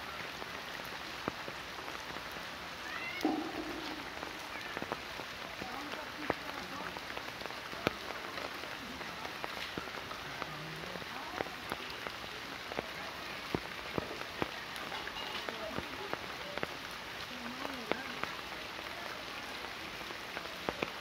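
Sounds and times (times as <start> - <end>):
heavy rain on flooded ground: 0.0 - 21.0
large raindrops ticking: 0.0 - 21.0.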